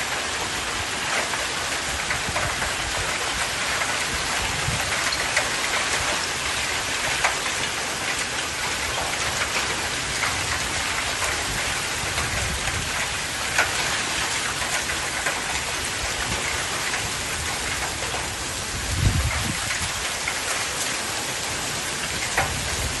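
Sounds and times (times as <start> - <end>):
hail and rain hissing: 0.0 - 23.0
hailstones ticking: 0.0 - 23.0.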